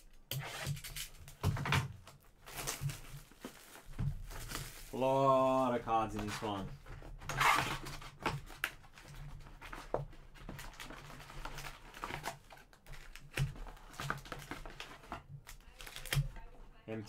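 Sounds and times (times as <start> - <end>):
card packs rustling and crinkling: 1.0 - 17.0.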